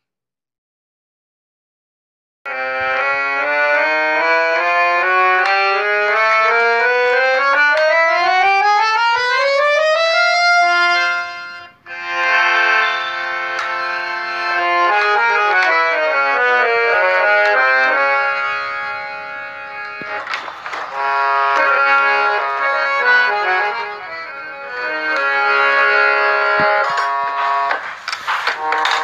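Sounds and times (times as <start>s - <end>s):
harmonium playing: 2.5s - 29.0s.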